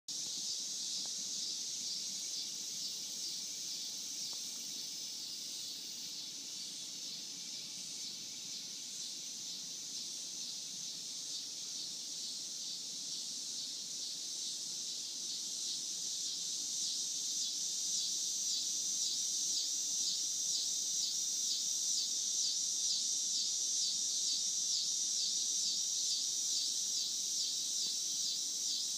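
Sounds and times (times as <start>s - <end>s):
insects trilling: 0.1s - 28.9s.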